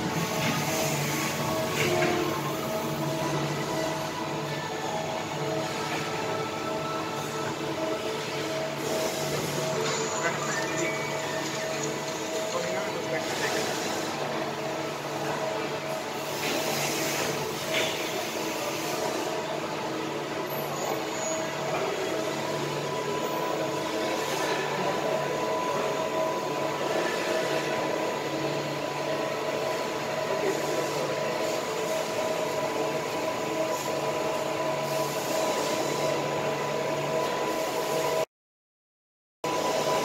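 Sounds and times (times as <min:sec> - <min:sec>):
milling machine whine: 0:00.0 - 0:38.2, 0:39.5 - 0:40.0.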